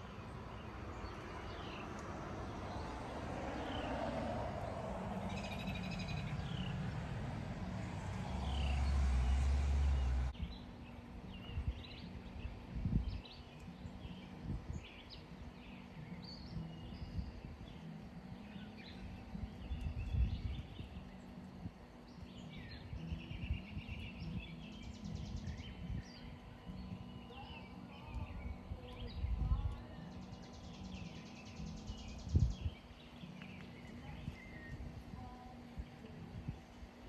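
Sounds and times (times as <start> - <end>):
songbirds chirping: 0.0 - 37.0
wind rumble on microphone: 0.0 - 37.0.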